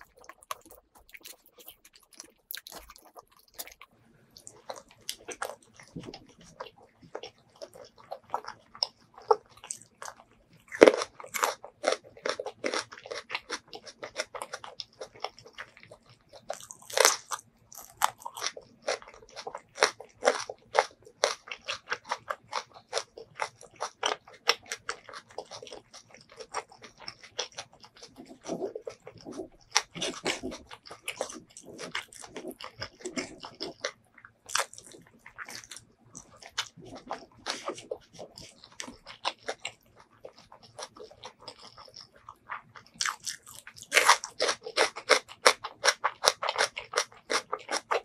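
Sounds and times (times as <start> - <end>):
crunching and chewing food: 0.0 - 48.0.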